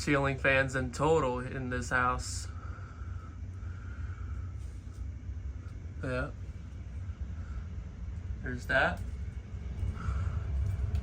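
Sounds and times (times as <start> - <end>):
ceiling fan running: 0.0 - 11.0.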